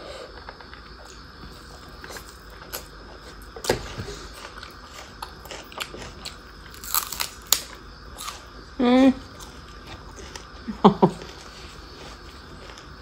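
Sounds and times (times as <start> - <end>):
person chewing food: 0.3 - 13.0.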